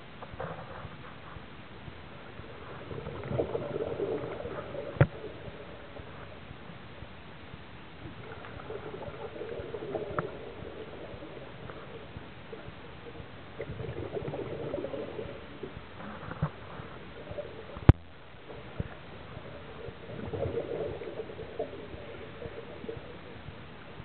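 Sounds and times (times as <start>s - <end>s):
underwater regulator bubbles: 2.5s - 6.5s, 8.0s - 23.8s.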